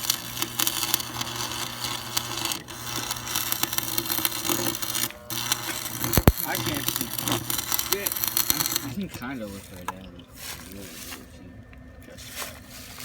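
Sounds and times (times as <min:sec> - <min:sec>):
arc welding crackle: 0:00.0 - 0:13.0
low electrical hum: 0:00.0 - 0:13.0.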